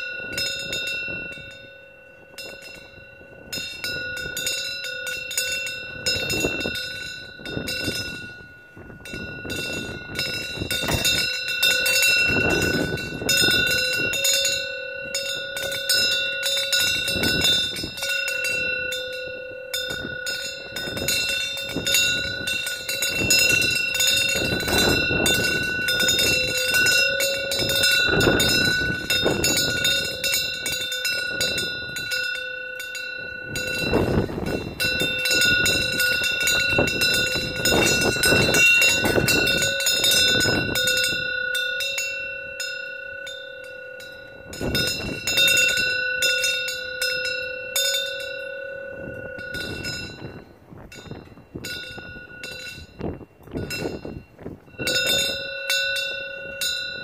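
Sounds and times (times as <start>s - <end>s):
strong wind gusts: 0.0s - 42.6s, 44.2s - 57.0s
wind bell clanging: 0.0s - 57.0s.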